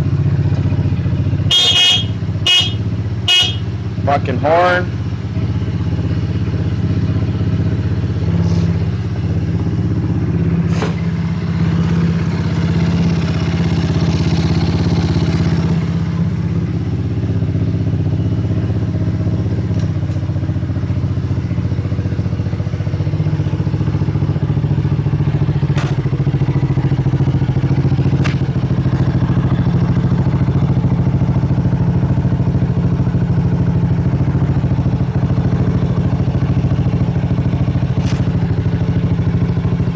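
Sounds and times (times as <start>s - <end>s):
dirt bike engine idling: 0.0s - 39.9s.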